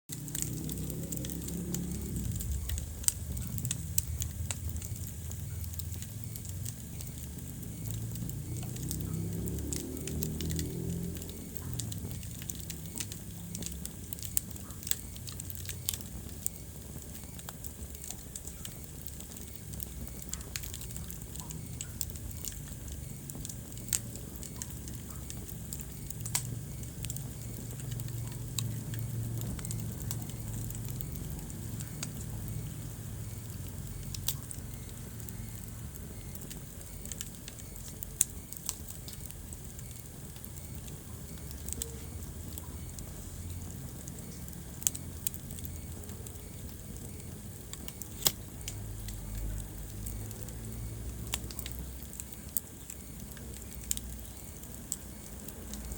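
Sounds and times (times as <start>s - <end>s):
sharp pops of fire: 0.1s - 55.9s
wood fire crackling: 0.1s - 55.9s.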